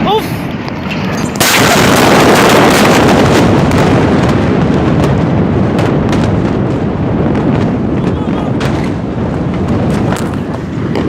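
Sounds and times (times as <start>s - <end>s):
loud rumble with cracks: 0.0s - 11.0s
explosion blast: 0.3s - 11.0s.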